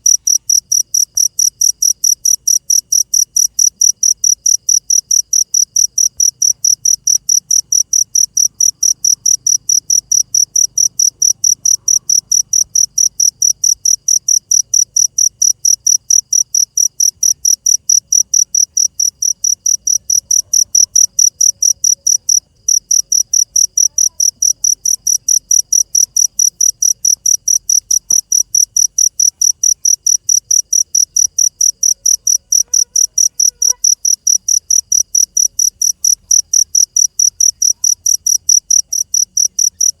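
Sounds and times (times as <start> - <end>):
cricket chirping: 0.0 - 40.0.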